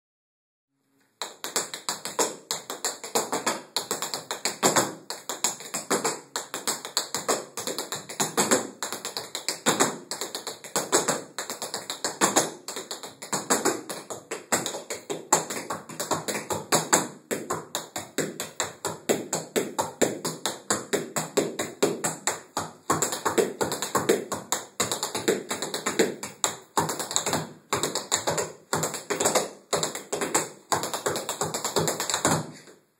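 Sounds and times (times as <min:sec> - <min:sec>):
tap shoes clicking on floor: 0:01.2 - 0:32.8.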